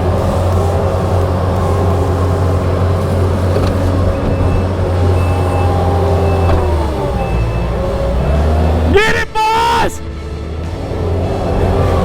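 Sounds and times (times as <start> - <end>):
diesel engine running hard: 0.0 - 12.0.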